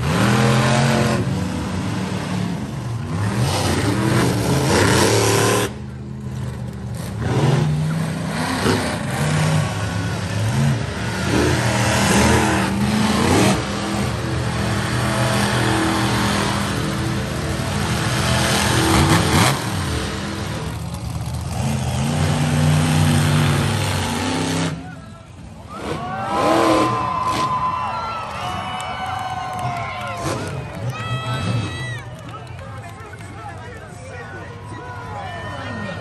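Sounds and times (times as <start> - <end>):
monster truck engines revving: 0.0 - 36.0.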